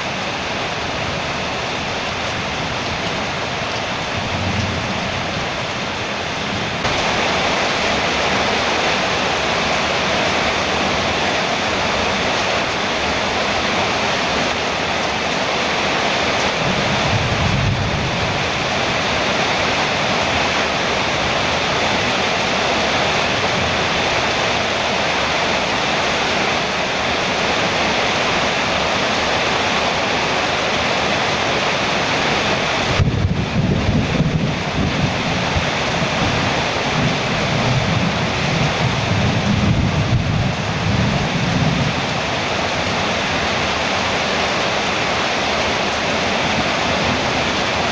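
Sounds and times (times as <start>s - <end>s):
heavy rain on a metal roof: 0.0s - 47.9s.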